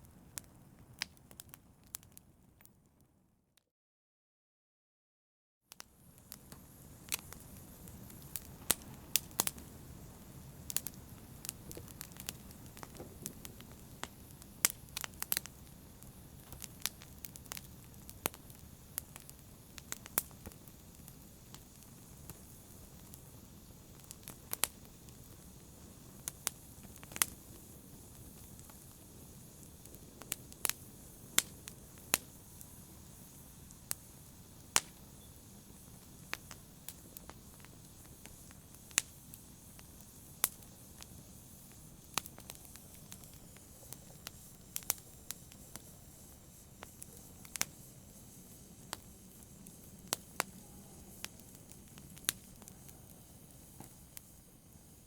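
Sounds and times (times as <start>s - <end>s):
wood fire crackling and popping: 0.0s - 2.8s, 5.7s - 55.0s.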